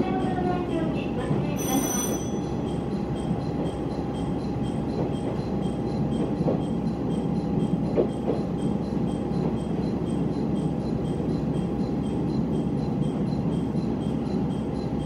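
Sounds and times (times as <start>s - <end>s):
railcar engine and wheels rumbling: 0.0s - 15.0s.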